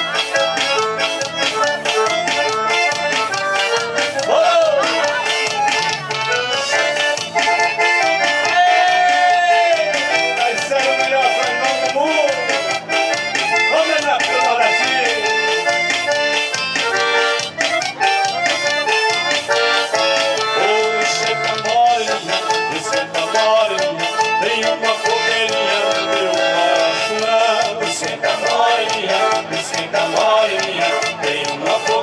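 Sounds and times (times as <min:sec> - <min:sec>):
accordion melody: 0:00.0 - 0:32.0
percussion beat: 0:00.0 - 0:32.0.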